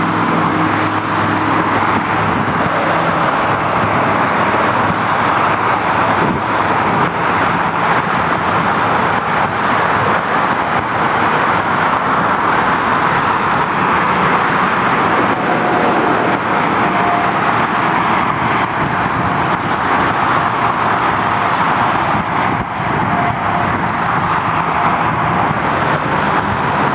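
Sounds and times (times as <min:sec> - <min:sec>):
train rumbling and rushing: 0:00.0 - 0:26.9.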